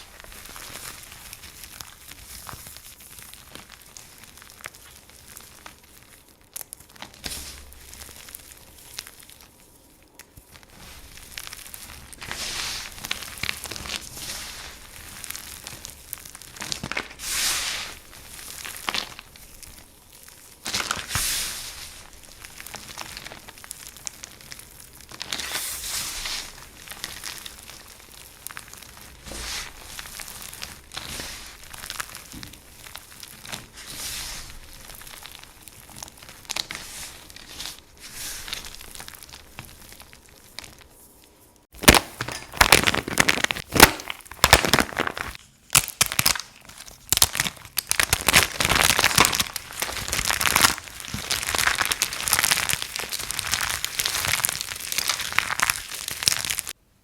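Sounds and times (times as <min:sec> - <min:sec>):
dry soap crunching: 0:00.0 - 0:56.8.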